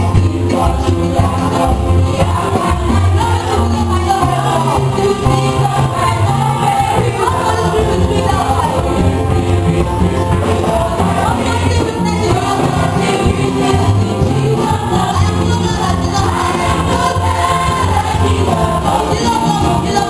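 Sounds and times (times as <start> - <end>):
choir singing with band: 0.0 - 20.0.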